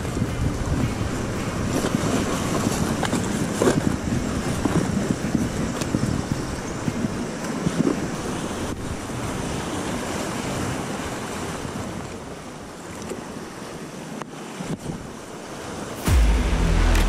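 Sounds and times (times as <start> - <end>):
wind buffeting the microphone: 0.0 - 15.8
sea surf breaking over boulders: 0.0 - 17.0.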